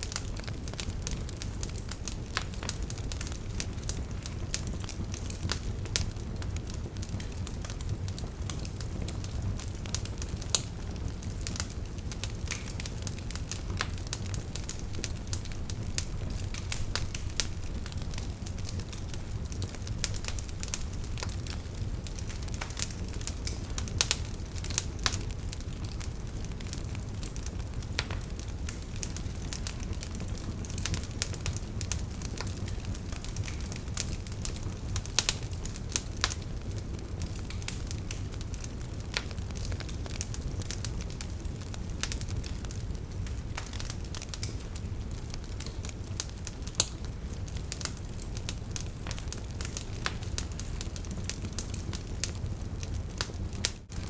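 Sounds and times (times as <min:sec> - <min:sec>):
firewood crackling and popping: 0:00.0 - 0:54.0
low rumble of flames: 0:00.0 - 0:54.0.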